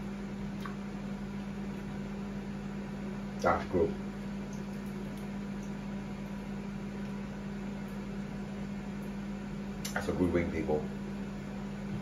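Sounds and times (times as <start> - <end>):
electrical hum: 0.0 - 12.0
fan noise: 0.0 - 12.0.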